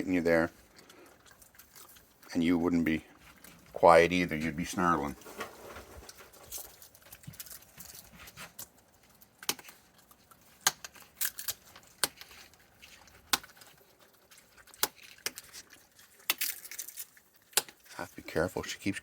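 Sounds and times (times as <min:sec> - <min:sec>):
animals crunching snacks: 0:00.0 - 0:19.0.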